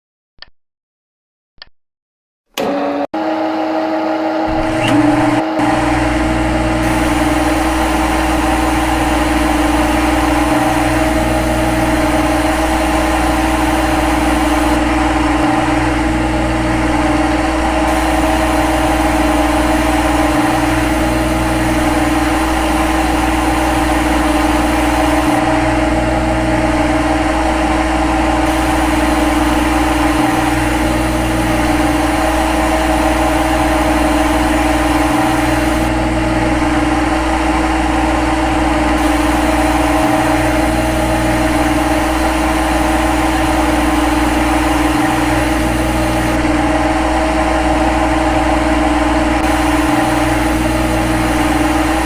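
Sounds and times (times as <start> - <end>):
machine running with hum: 2.6 - 52.0.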